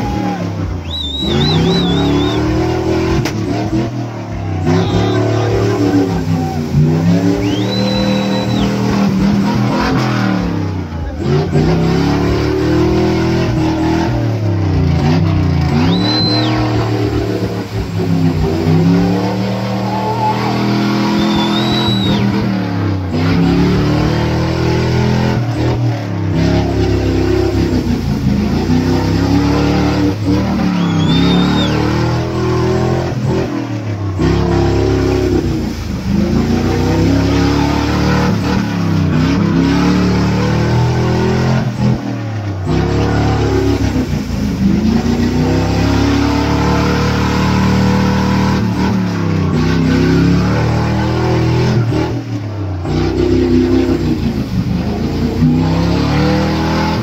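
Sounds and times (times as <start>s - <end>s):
off-road engine revving: 0.0s - 57.0s
wheels flinging mud: 0.0s - 57.0s.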